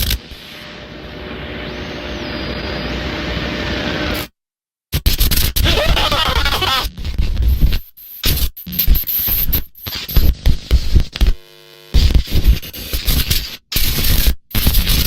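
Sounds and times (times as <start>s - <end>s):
harsh static crackling: 0.0s - 4.3s, 5.0s - 15.0s.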